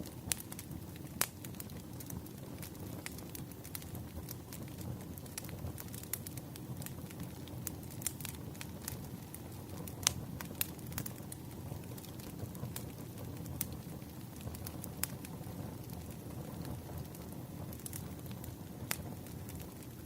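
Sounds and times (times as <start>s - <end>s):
sharp pops of fire: 0.0s - 20.0s
wood fire crackling: 0.0s - 20.0s.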